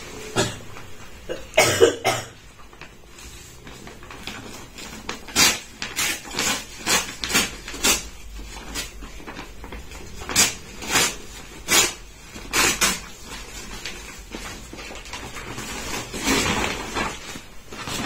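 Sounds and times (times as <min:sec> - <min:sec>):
paper bag tearing: 0:03.1 - 0:18.0.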